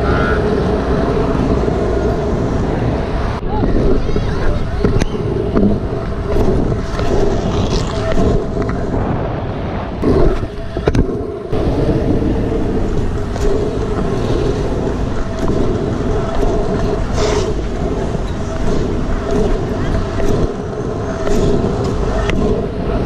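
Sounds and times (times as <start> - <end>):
scooter wheels rolling on pavement: 0.0 - 23.0
street traffic: 0.0 - 23.0
wind on microphone: 0.0 - 23.0.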